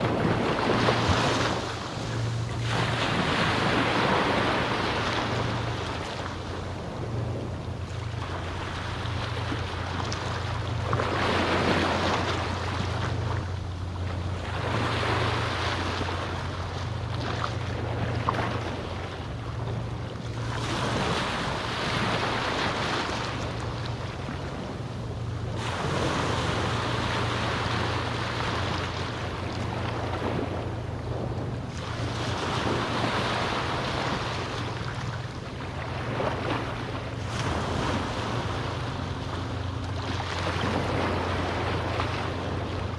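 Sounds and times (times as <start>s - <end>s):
small waves washing onto beach: 0.0s - 42.9s
steady low rumble: 0.0s - 42.9s.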